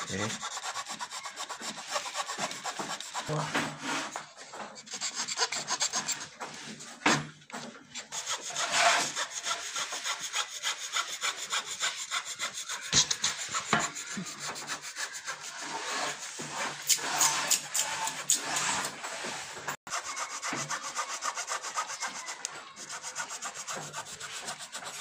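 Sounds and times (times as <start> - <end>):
blade scraping wood: 0.0 - 25.0.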